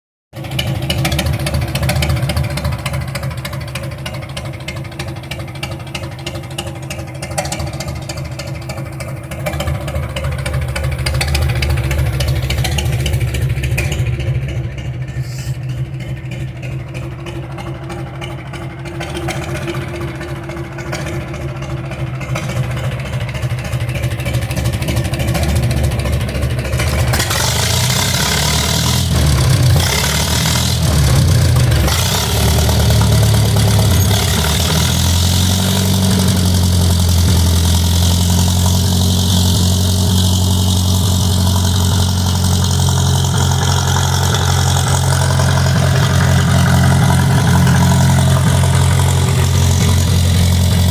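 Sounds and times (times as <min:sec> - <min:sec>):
tractor engine running: 0:00.3 - 0:50.9.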